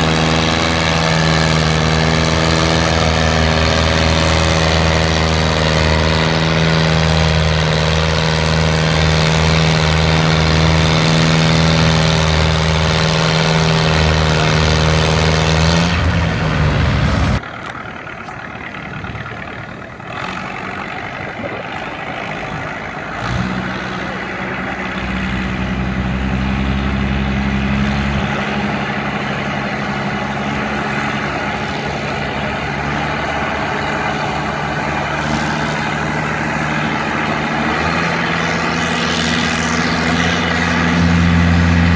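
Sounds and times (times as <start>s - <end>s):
quieter engine running: 0.0s - 41.9s
tractor engine running hard: 0.0s - 41.9s.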